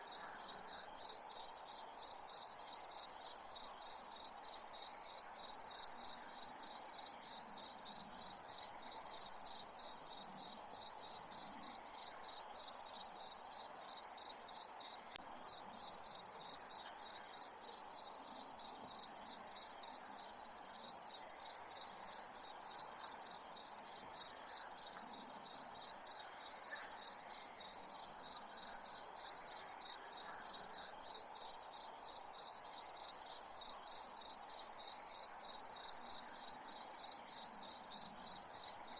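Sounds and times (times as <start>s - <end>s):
crickets chirping: 0.0s - 38.9s
faint background hiss: 0.0s - 38.9s.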